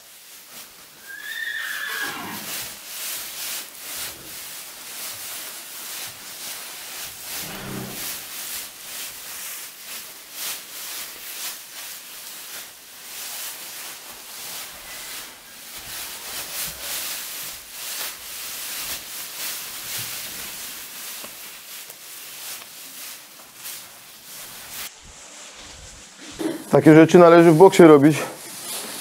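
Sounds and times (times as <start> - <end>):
hooves and feet rustling straw: 0.0 - 29.0.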